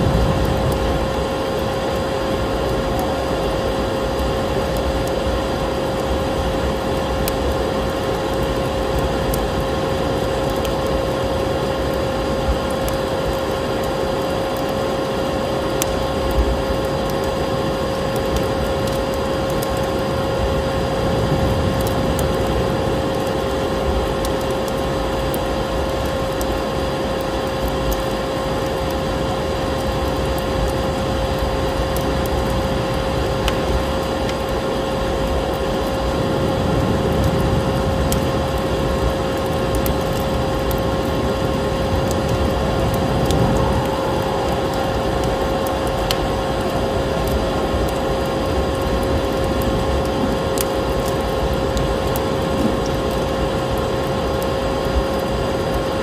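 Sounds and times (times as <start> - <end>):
crackling wood fire: 0.0 - 56.0.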